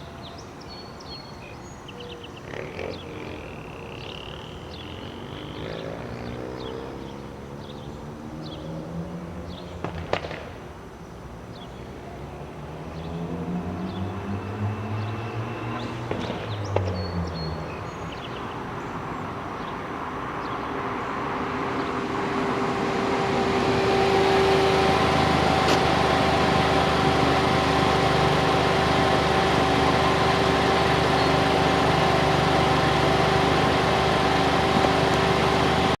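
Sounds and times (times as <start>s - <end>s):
engine running with whine: 0.0s - 10.6s, 11.5s - 36.0s.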